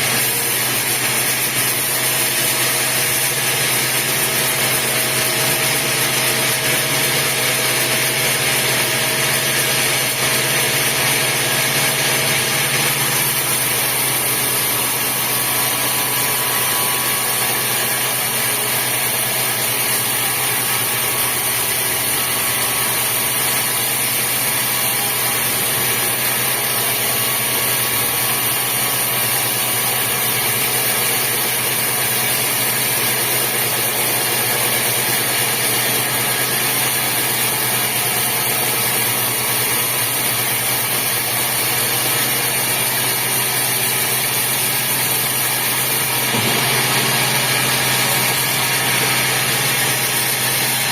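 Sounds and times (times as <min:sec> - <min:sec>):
sawmill machinery drone: 0:00.0 - 0:50.9.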